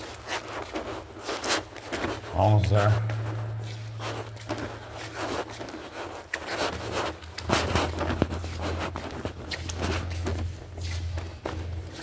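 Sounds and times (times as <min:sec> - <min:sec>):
clothing rustle: 0:00.0 - 0:12.0
footsteps scuffing: 0:00.0 - 0:12.0
steady low hum: 0:00.0 - 0:12.0.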